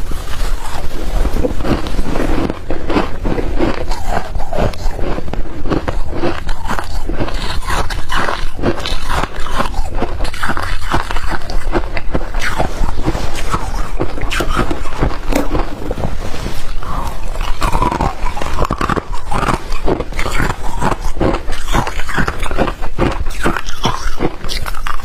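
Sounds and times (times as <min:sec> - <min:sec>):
chewing ice crunching: 0:00.0 - 0:25.0.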